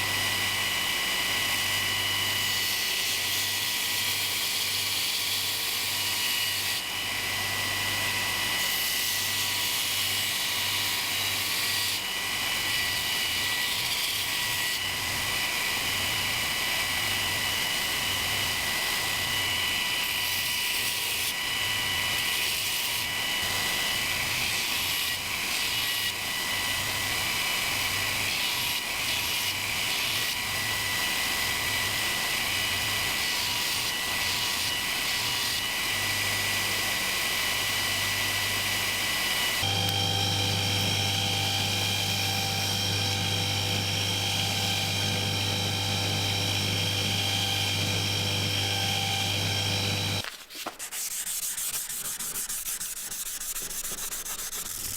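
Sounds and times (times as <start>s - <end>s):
power grinder whining: 0.0s - 50.3s.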